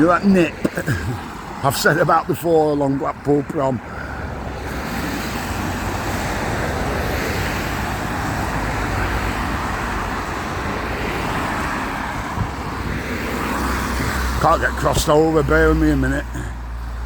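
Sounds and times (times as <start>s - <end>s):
road traffic on wet road: 0.0s - 17.0s.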